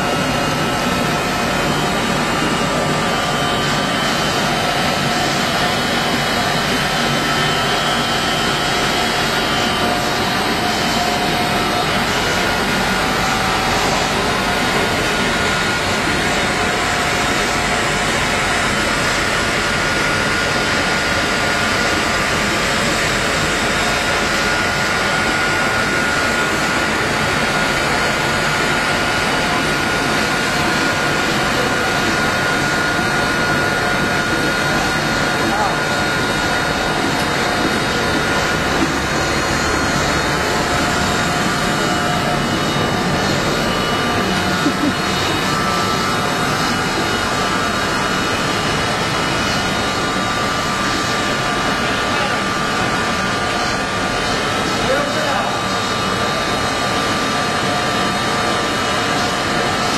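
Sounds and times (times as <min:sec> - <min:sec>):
machine drone with high whine: 0:00.0 - 0:59.9.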